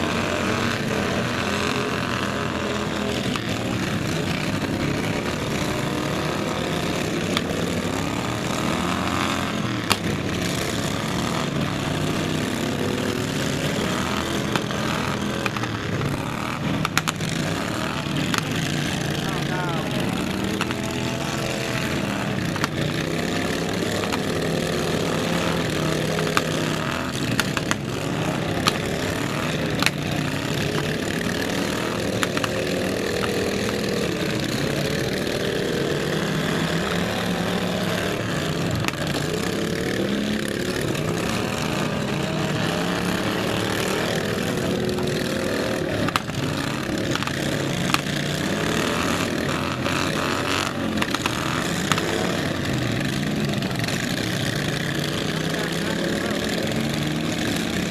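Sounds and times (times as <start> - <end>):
riding lawn mower engines revving: 0.0 - 57.9.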